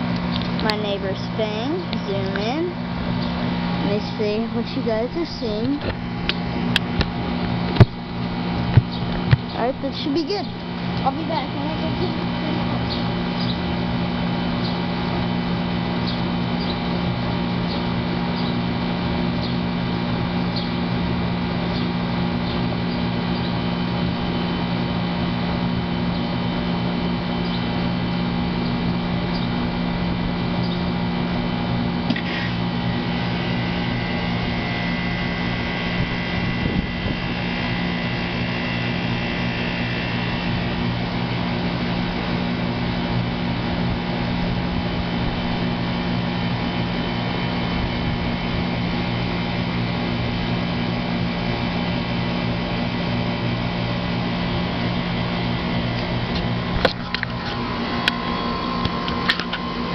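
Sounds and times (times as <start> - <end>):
air conditioner unit humming: 0.0 - 59.9
high steady whine: 0.0 - 59.9.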